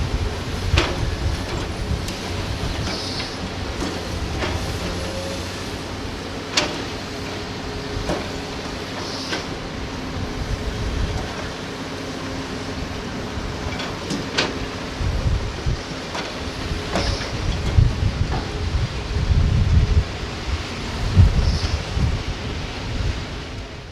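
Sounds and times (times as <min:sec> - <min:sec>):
heavy diesel engines running: 0:00.0 - 0:23.9.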